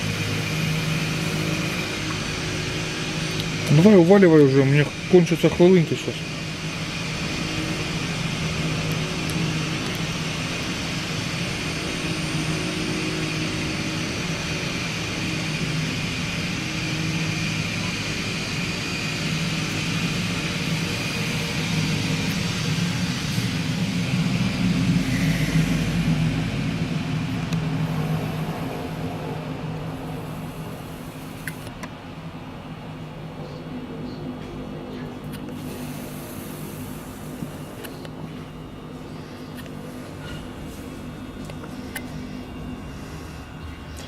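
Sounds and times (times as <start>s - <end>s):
small airplane engine droning: 0.0s - 44.0s.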